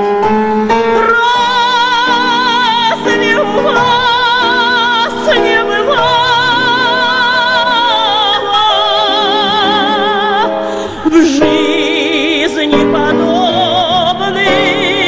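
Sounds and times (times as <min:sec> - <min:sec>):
grand piano accompaniment: 0:00.0 - 0:15.0
woman singing with vibrato: 0:00.9 - 0:15.0.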